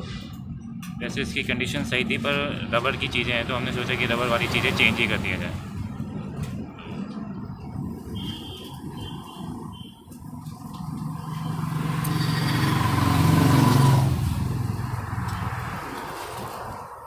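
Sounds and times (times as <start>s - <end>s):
vehicle engine passing by: 1.2s - 17.0s.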